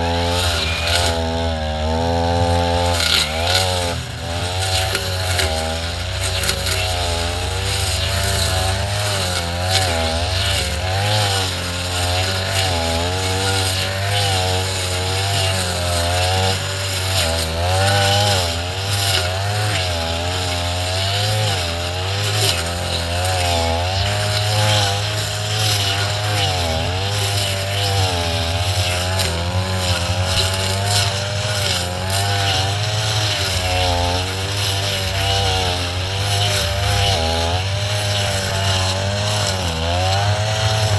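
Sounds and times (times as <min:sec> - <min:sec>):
brush cutter cutting grass: 0:00.0 - 0:40.9.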